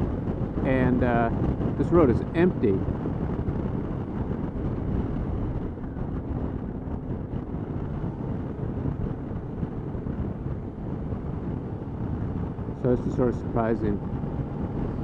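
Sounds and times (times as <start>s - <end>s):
motorcycle engine rumble: 0.0s - 15.0s
wind on camera microphone: 0.0s - 15.0s.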